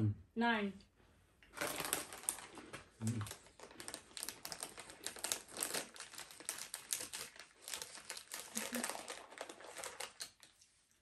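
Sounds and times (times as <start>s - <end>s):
plastic crisp packet crinkling: 1.5s - 10.7s.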